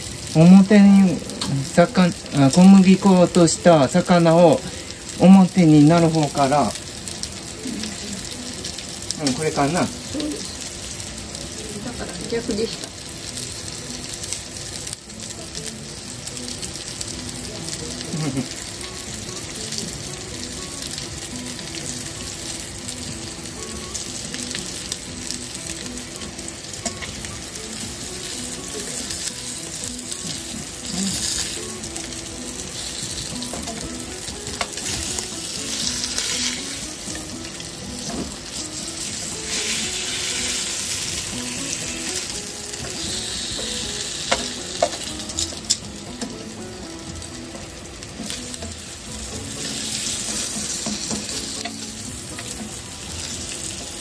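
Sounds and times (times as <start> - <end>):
fish sizzling in pan: 0.0 - 54.0.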